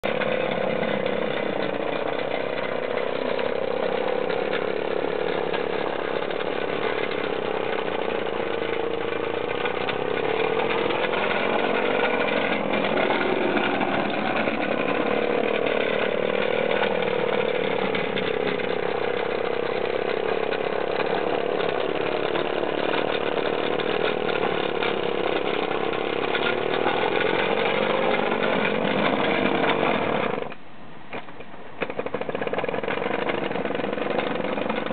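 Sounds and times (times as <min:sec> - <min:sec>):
small steam engine running: 0:00.0 - 0:30.6, 0:31.8 - 0:34.9.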